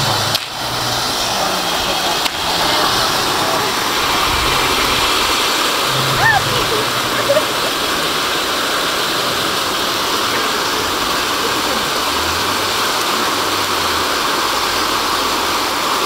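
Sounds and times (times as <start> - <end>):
firework fountains hissing: 0.0 - 16.0.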